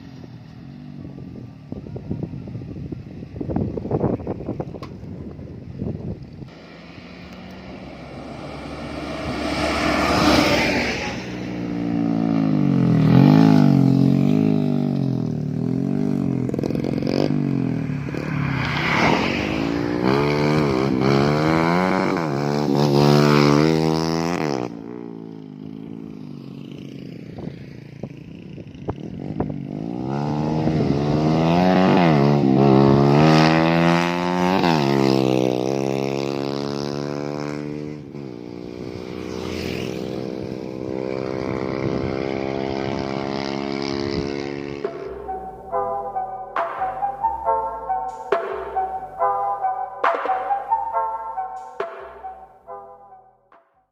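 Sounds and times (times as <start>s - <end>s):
motorcycle engine revving: 6.3s - 51.0s.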